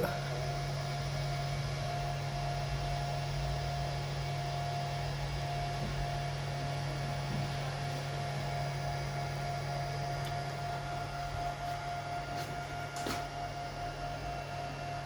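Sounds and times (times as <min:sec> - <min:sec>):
electrical hum: 0:00.0 - 0:15.0
thin constant whine: 0:00.0 - 0:15.0.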